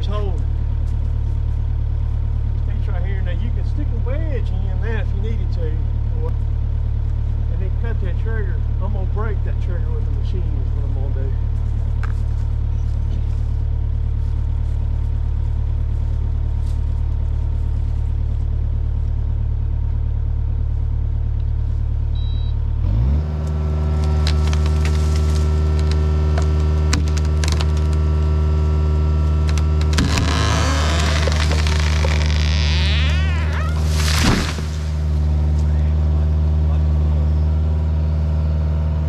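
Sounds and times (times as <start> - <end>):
heavy machine engine running: 0.0 - 39.0.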